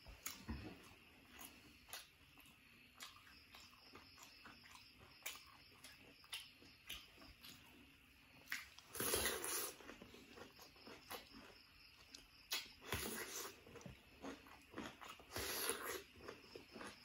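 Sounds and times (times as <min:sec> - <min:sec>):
quiet chewing: 0:00.0 - 0:17.0.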